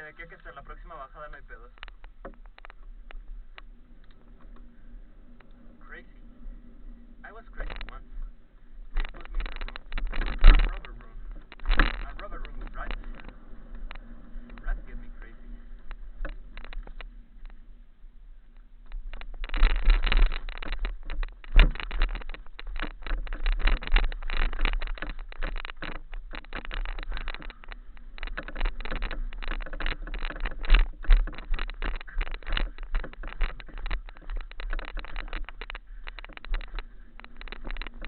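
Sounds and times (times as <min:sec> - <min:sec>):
bike rattling over rocks: 0:00.0 - 0:38.0
wind on microphone: 0:01.4 - 0:38.0.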